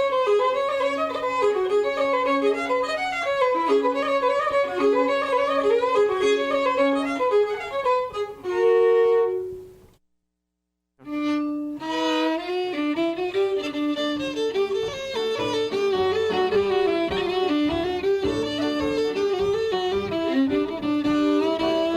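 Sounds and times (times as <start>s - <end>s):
fiddle music: 0.0s - 9.8s, 11.0s - 21.9s.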